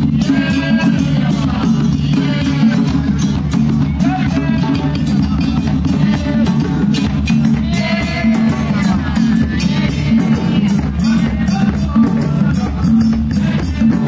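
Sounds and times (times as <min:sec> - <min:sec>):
drum-led music: 0:00.0 - 0:14.0
voices singing: 0:00.0 - 0:14.0.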